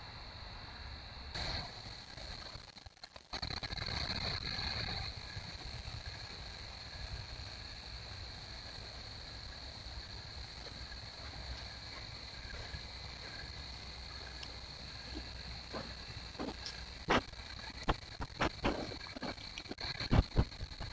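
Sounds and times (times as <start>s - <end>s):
faint low hiss: 0.0s - 20.9s
insects trilling: 0.0s - 20.9s.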